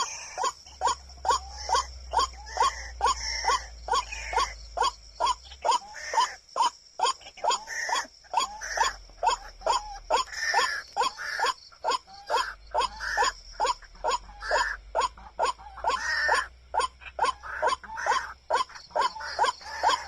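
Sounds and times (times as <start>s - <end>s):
waterhen croaking calls: 0.0s - 20.0s.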